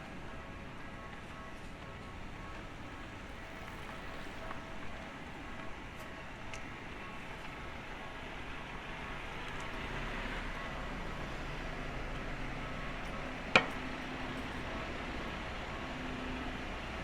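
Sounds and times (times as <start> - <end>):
traffic hum: 1.1 - 17.0.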